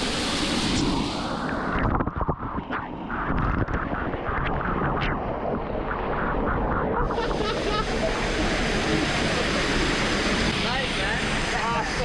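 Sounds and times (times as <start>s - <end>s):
muffled rushing water underwater: 0.0s - 12.0s.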